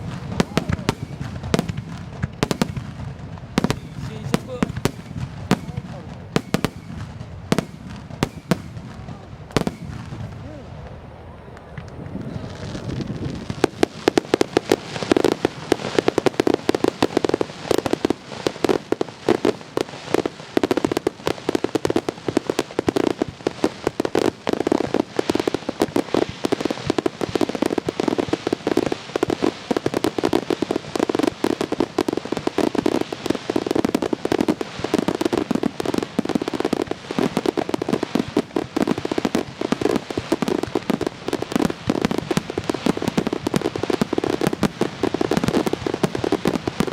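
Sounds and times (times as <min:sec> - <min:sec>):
fireworks bursting and crackling: 0:00.0 - 0:46.9.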